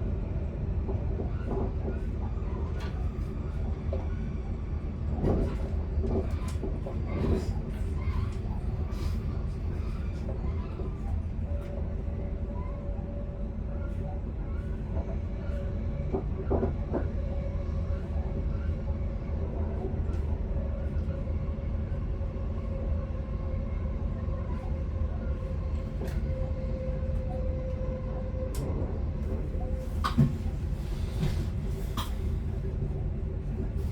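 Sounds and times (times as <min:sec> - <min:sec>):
train wheels rumbling on rail: 0:00.0 - 0:33.9
train whine: 0:05.2 - 0:33.9.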